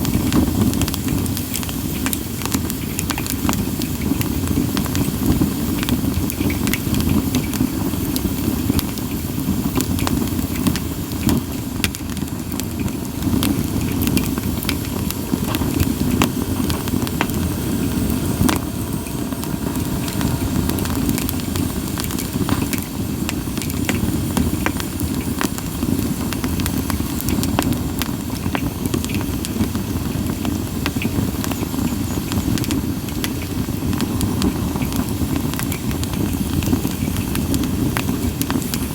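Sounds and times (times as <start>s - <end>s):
campfire crackling and popping: 0.0s - 38.9s
low rush of burning: 0.0s - 38.9s.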